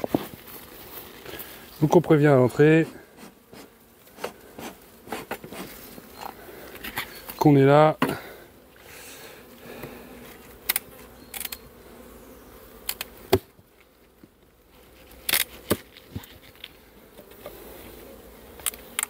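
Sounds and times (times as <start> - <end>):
clicks and knocks of hive: 0.0 - 8.4, 9.7 - 11.8, 12.7 - 19.0
bees buzzing: 0.0 - 19.0.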